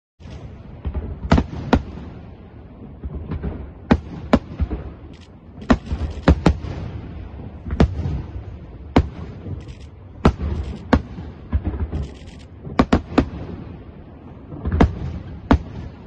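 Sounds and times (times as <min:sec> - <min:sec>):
fireworks bursting with sharp bangs: 0:00.2 - 0:16.0.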